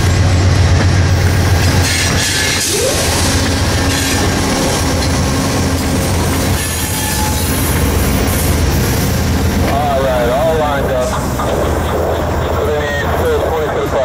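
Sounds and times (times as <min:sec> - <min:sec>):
locomotive engines humming: 0:00.0 - 0:14.0
wheels rumbling on rails: 0:00.0 - 0:14.0.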